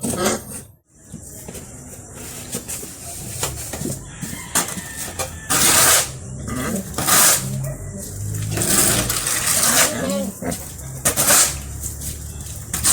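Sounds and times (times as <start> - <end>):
shovel scraping cement floor: 0.0 - 12.9.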